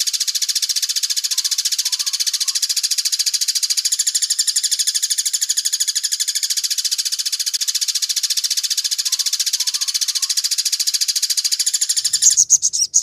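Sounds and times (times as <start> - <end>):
bird rattling trill: 0.0 - 13.0.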